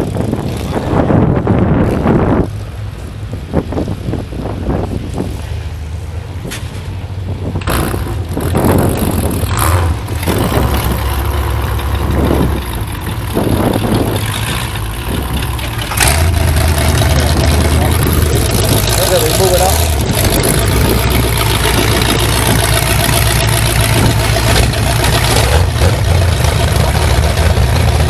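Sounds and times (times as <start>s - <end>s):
car engines idling: 0.0s - 28.0s.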